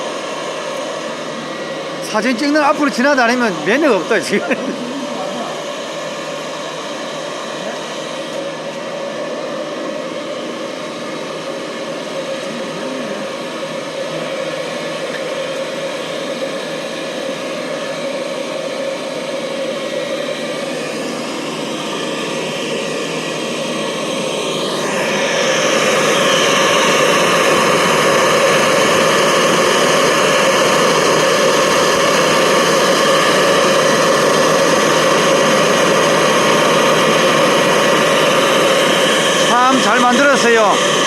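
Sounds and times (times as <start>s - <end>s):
blower whooshing whir: 0.0s - 41.0s.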